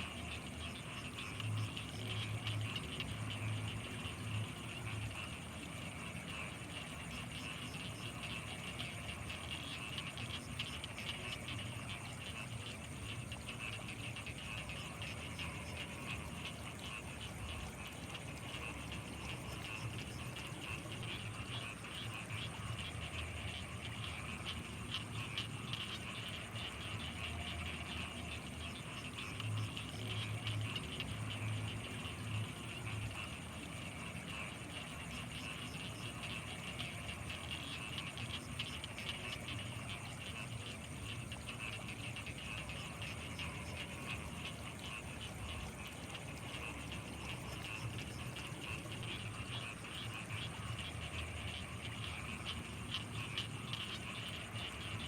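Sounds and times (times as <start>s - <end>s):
low repeated frog pulses: 0.0s - 55.0s
thin high insect tone: 0.0s - 55.0s.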